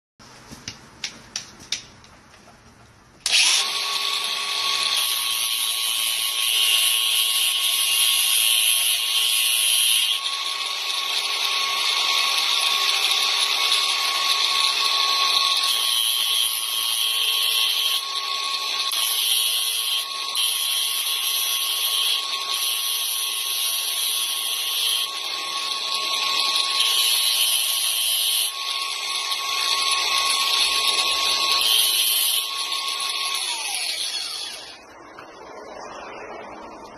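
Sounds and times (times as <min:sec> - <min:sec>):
angle grinder grinding metal: 0:03.2 - 0:34.9.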